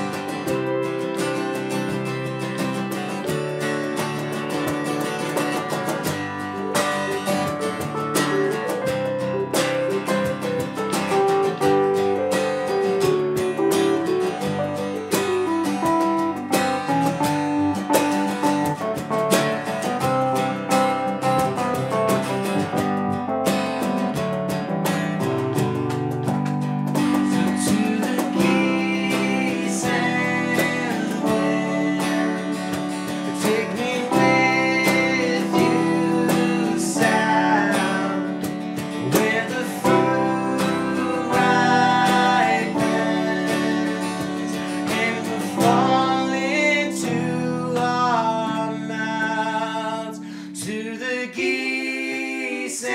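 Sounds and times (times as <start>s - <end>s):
hand percussion: 0.0s - 46.3s
sustained keyboard chords: 0.0s - 52.4s
acoustic guitar strumming: 0.0s - 52.9s.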